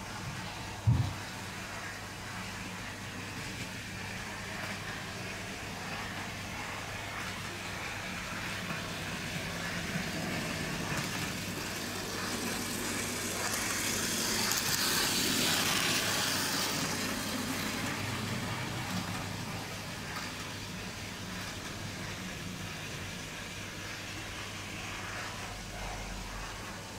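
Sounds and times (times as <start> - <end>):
model train motor whirring: 2.7 - 24.4.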